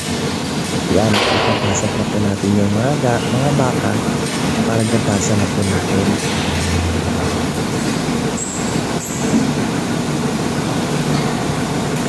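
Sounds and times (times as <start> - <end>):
milking machine running: 0.0 - 12.0.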